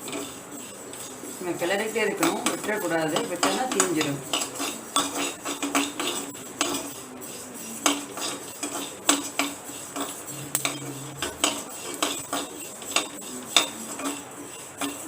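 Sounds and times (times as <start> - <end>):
spatula scraping rice in a pan: 0.0 - 15.0.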